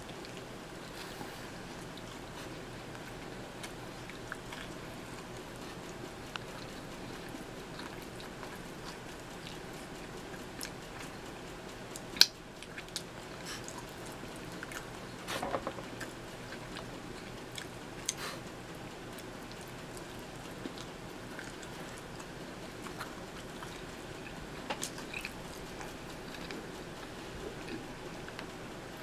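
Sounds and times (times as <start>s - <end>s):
steady background hiss: 0.0s - 29.0s
person chewing: 0.1s - 11.2s, 12.0s - 18.4s, 19.1s - 28.5s.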